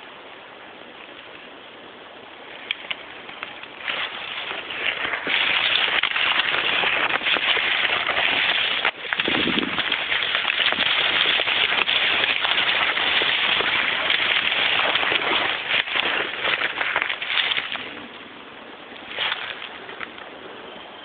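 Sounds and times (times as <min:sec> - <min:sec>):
leaves and twigs rustling: 0:00.0 - 0:21.0.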